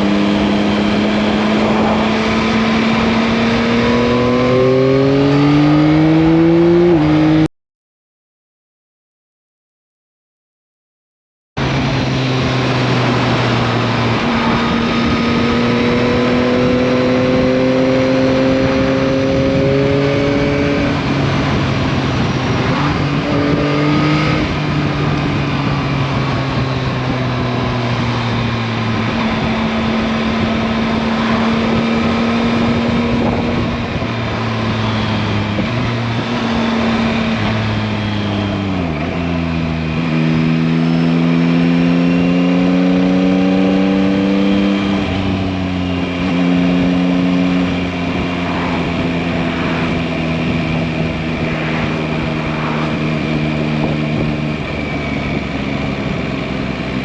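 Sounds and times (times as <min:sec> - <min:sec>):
motorcycle engine revving: 0:00.0 - 0:07.5, 0:11.6 - 0:57.0
wind and road noise: 0:00.0 - 0:07.5, 0:11.6 - 0:57.0.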